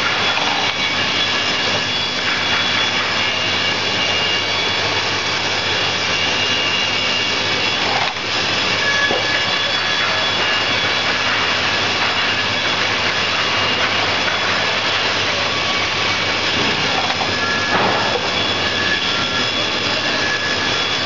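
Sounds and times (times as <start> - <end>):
saw machine whining under load: 0.0 - 21.0.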